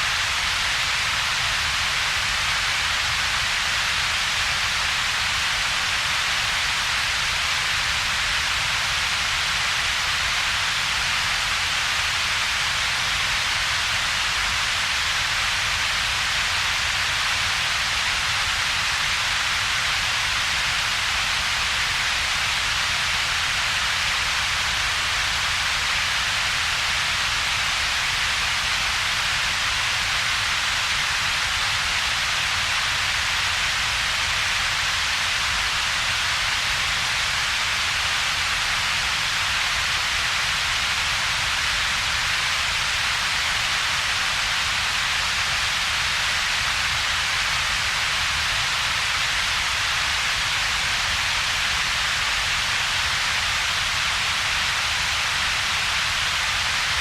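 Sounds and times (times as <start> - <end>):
synthetic noise hiss: 0.0 - 57.0.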